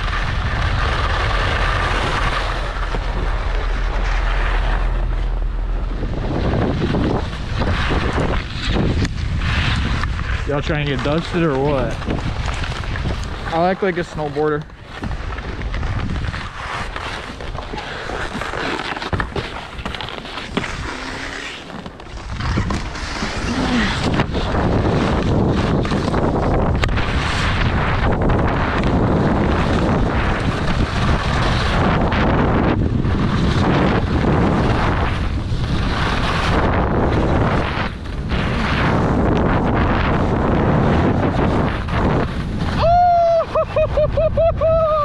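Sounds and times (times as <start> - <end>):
wind on microphone: 0.0 - 21.3, 22.0 - 45.0
skis scraping over snow: 0.0 - 45.0.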